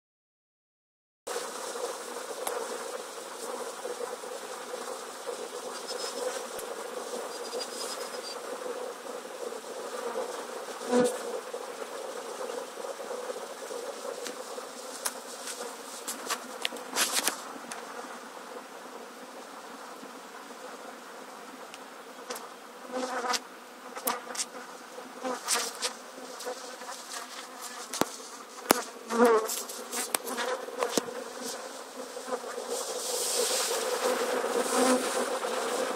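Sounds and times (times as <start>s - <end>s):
bee swarm humming: 1.3s - 35.9s
single bee buzzing close by: 1.4s - 35.9s.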